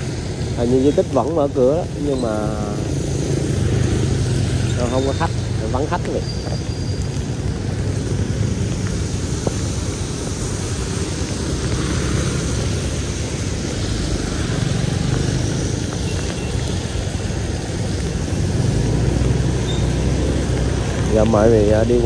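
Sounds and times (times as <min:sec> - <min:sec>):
vehicle and road noise: 0:00.0 - 0:22.0.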